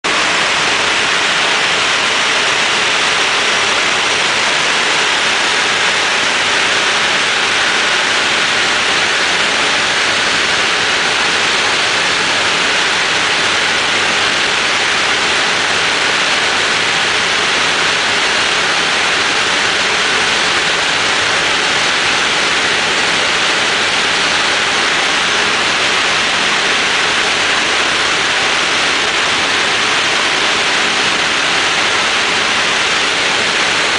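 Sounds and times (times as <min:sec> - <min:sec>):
low drone of propeller engines: 0:00.0 - 0:33.9.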